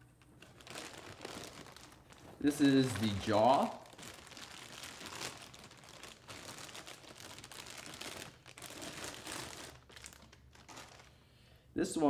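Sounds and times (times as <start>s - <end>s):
plastic wrapping crinkling: 0.0s - 11.3s.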